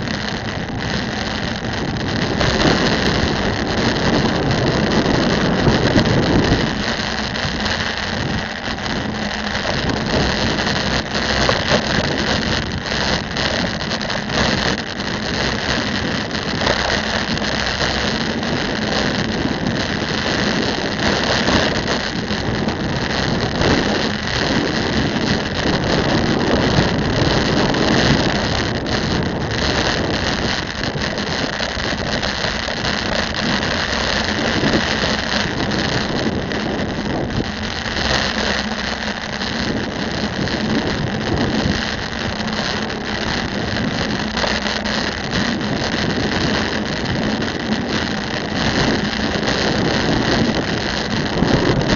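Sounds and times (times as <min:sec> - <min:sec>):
bicycle road noise: 0:00.0 - 0:51.9
wind noise on microphone: 0:00.0 - 0:51.9.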